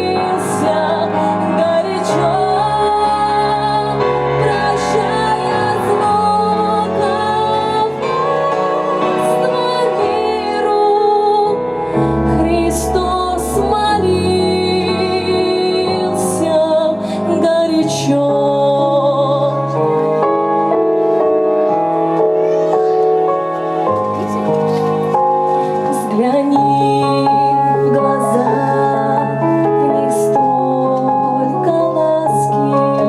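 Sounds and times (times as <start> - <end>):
woman singing with vibrato: 0.0 - 19.9, 25.7 - 33.0
sustained instrumental accompaniment: 0.0 - 33.0.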